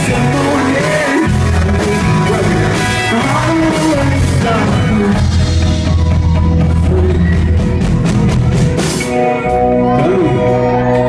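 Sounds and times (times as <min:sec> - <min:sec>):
drum kit: 0:00.0 - 0:11.0
rock band playing instrumental: 0:00.0 - 0:11.0.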